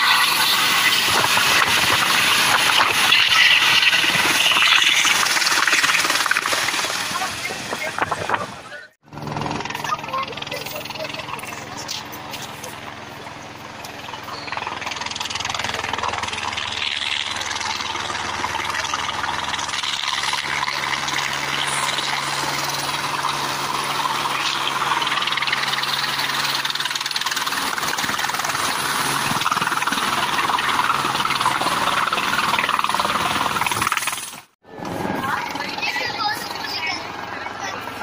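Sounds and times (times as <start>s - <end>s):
helicopter rotor and engine: 0.0s - 38.0s.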